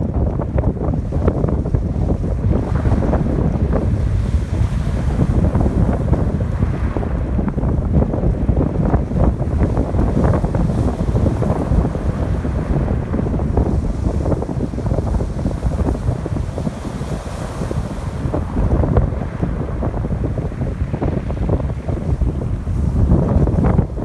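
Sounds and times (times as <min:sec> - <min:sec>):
ocean surf washing ashore: 0:00.0 - 0:24.0
wind buffeting microphone: 0:00.0 - 0:24.0.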